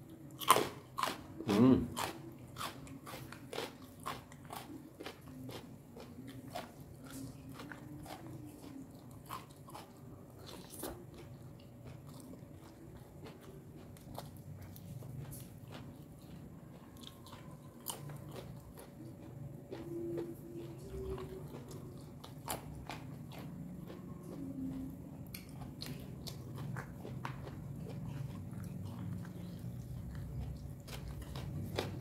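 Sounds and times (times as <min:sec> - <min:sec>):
person chewing food: 0:00.0 - 0:32.0.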